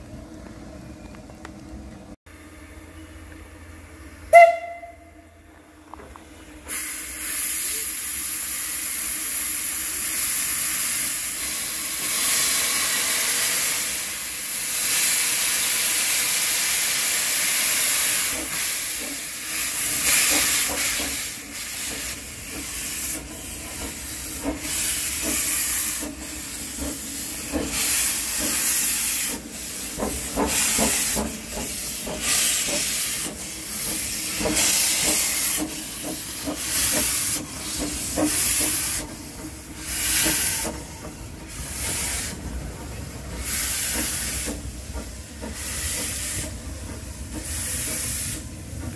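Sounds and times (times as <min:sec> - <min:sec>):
steam locomotive chuffing: 0:03.6 - 0:48.9
steam hissing: 0:06.6 - 0:48.9.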